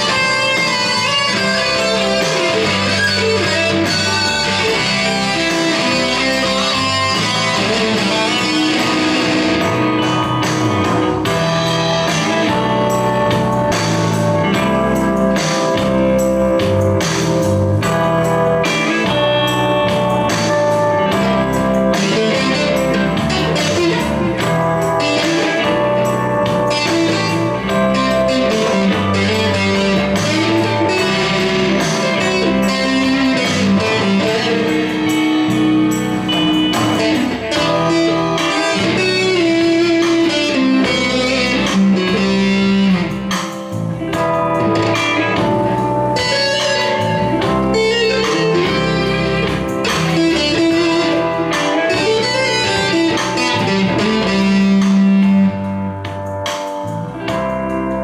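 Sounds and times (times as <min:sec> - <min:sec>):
backing track with bass and beat: 0:00.0 - 0:58.0
electric guitar lead melody: 0:00.0 - 0:58.0.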